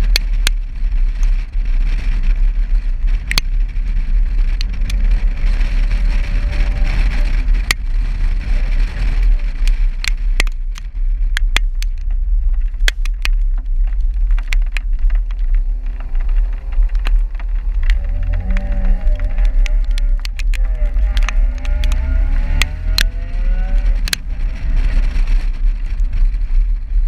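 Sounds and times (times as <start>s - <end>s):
car driving on wet road: 0.0s - 27.0s
raindrops clicking on camera: 0.0s - 27.0s.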